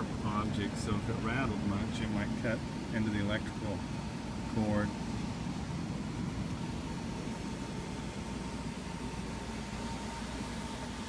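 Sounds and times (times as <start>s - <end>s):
air conditioner humming: 0.0s - 11.0s
faint high whine: 0.0s - 11.0s.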